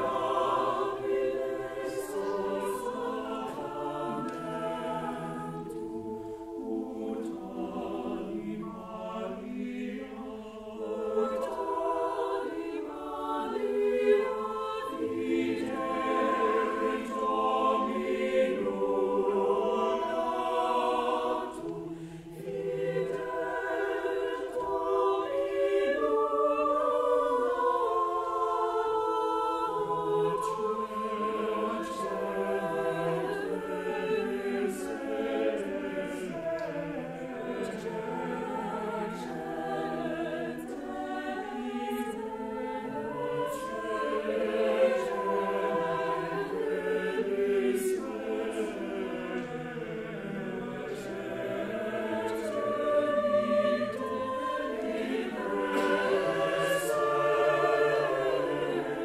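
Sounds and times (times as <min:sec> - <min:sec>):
mixed choir singing in harmony: 0:00.0 - 0:59.0.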